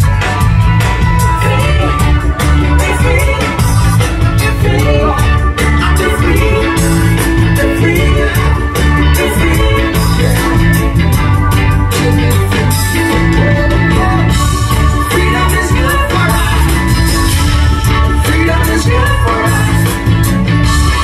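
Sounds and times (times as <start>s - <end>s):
electric guitar: 0.0s - 21.0s
heavy bass line: 0.0s - 21.0s
live reggae band playing: 0.0s - 21.0s
steady drum beat: 0.0s - 21.0s.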